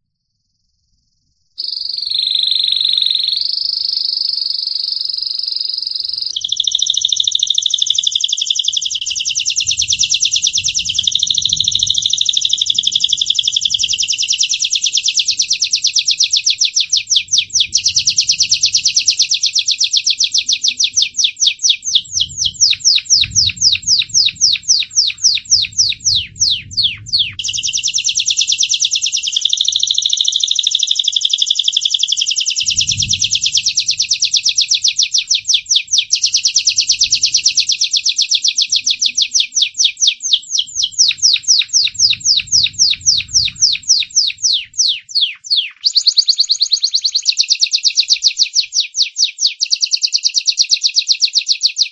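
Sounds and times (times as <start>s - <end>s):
canary singing with trills: 1.6s - 51.9s.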